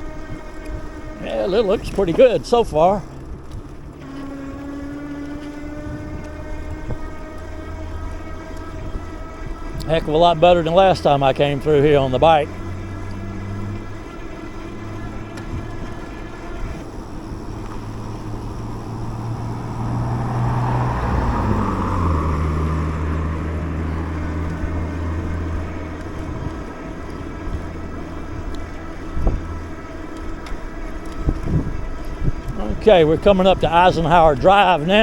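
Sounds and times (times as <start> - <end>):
motor vehicle passing: 0.0 - 35.0
road and wind noise: 0.0 - 35.0.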